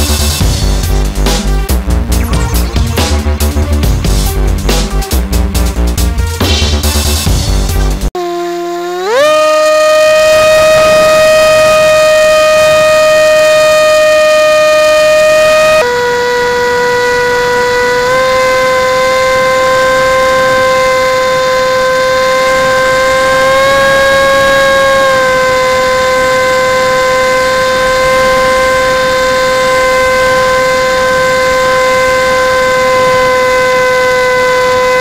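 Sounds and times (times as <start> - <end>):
electric motor and propeller whine: 0.0 - 35.0.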